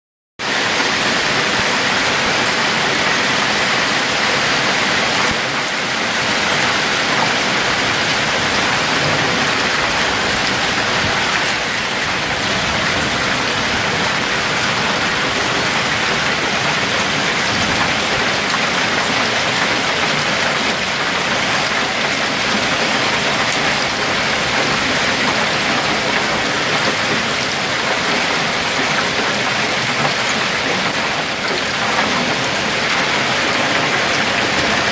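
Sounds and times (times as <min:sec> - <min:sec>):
hail and heavy rain: 0:00.4 - 0:34.9.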